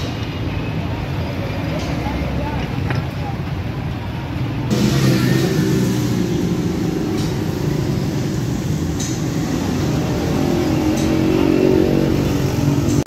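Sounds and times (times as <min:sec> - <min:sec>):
roadside traffic noise: 0:00.0 - 0:13.0.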